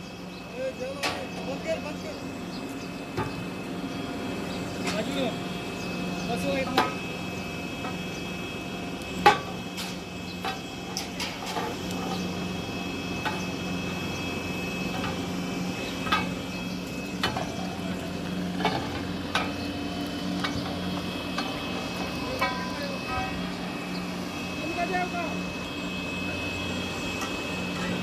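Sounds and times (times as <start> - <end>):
machine hum with high tone: 0.0 - 28.0.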